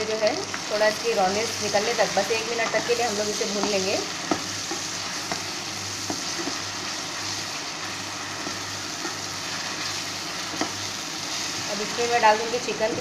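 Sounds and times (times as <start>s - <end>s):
paste sizzling in hot oil: 0.0s - 12.8s.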